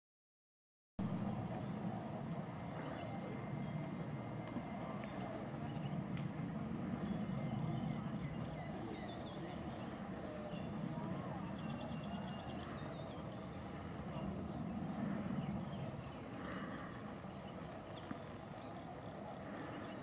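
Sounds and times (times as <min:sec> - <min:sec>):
steady low hum: 0:01.0 - 0:20.0.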